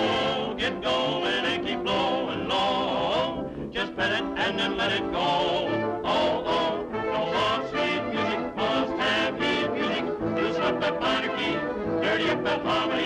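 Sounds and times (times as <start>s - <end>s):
band accompaniment: 0.0s - 13.0s
jazzy song with vibrato melody: 0.0s - 13.0s.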